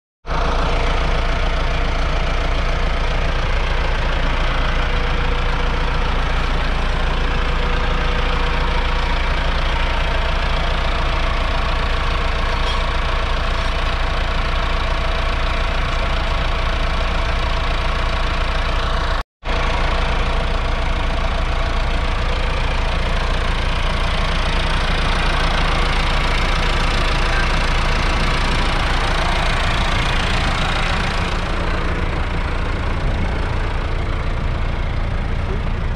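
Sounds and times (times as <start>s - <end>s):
tractor diesel engine idling: 0.2s - 35.9s.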